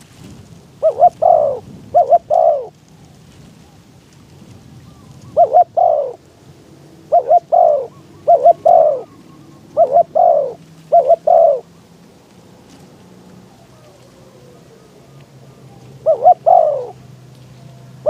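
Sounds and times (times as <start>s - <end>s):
dove cooing: 0.8s - 3.9s, 4.7s - 11.8s, 13.4s - 18.0s.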